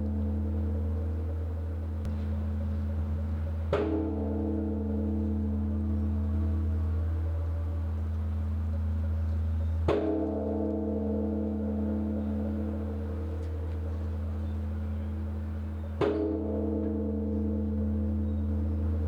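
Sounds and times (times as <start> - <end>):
large bronze bell tolling: 0.0 - 19.0.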